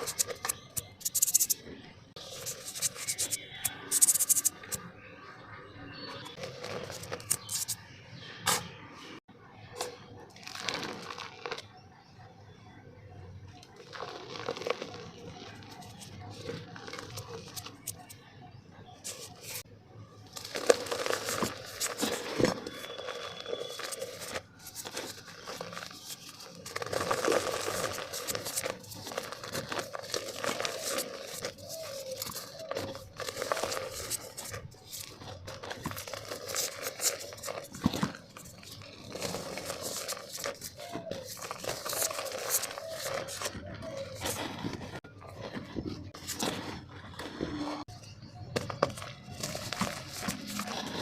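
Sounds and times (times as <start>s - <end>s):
dry mud crumbling in a clay pot: 0.0s - 51.0s.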